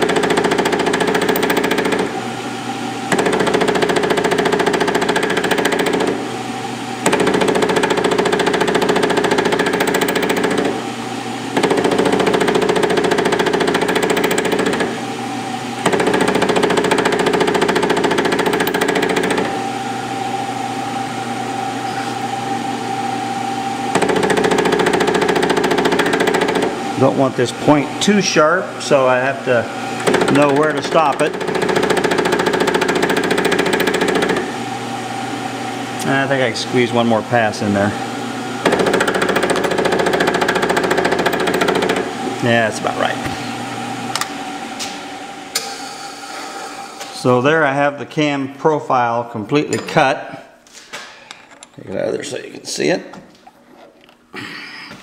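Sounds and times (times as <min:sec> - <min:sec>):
milling machine motor: 0:00.0 - 0:06.4, 0:07.0 - 0:20.3, 0:21.0 - 0:47.4.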